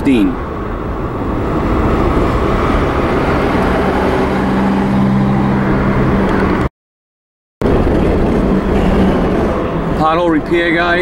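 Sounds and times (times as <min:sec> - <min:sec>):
car engine and tyre noise: 0:00.0 - 0:06.7, 0:07.6 - 0:11.0.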